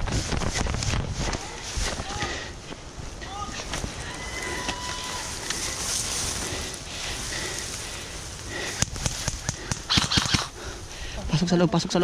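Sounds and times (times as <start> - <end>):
breathy rush of noise: 0.0 - 11.5
rustling through dry grass: 0.0 - 11.8.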